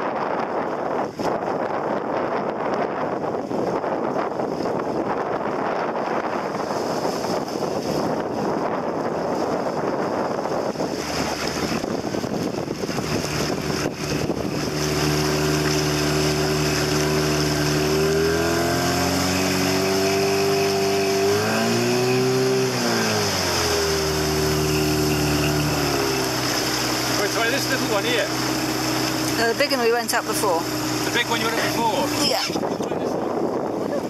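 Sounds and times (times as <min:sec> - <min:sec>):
outboard motor running: 0:00.0 - 0:34.0
water noise: 0:00.0 - 0:34.0
wind: 0:00.0 - 0:34.0.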